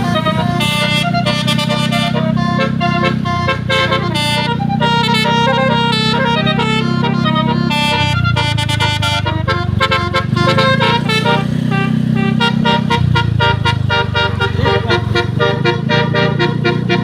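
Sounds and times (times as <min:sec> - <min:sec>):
multi-tone bus horn melody: 0:00.0 - 0:17.0.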